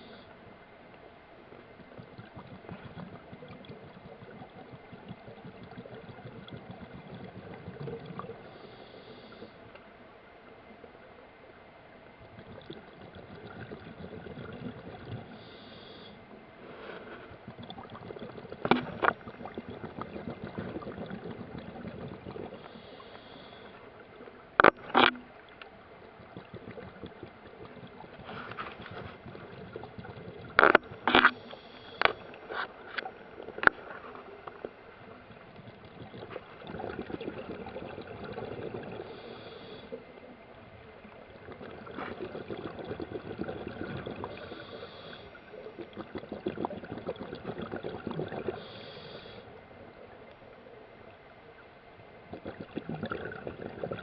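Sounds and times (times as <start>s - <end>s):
rushing underwater water noise: 0.0s - 54.0s.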